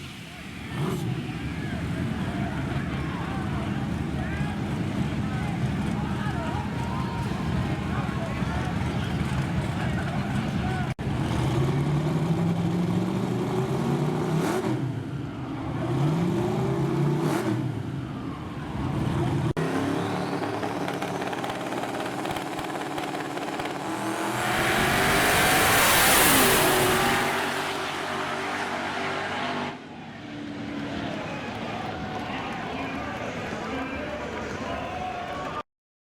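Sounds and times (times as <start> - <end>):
truck engines at full throttle: 0.0 - 35.6.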